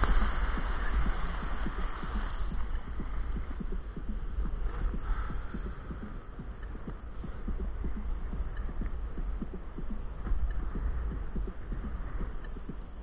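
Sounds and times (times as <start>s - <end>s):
muffled water sloshing: 0.0s - 13.0s.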